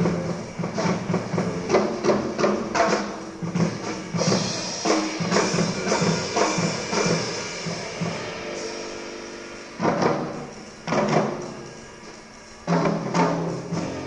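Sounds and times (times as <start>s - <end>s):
drum and cymbal hits: 0.0s - 14.0s
jazz band playing: 0.0s - 14.0s.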